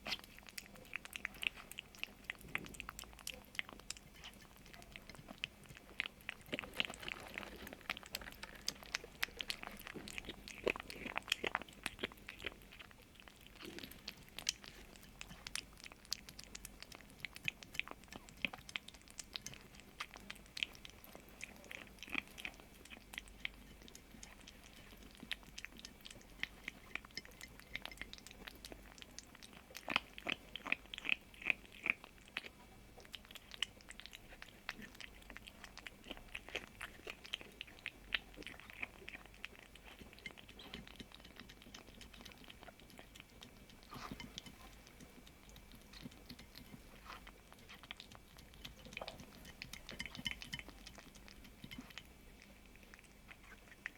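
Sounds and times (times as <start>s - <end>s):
kitten chewing food: 0.0s - 53.9s.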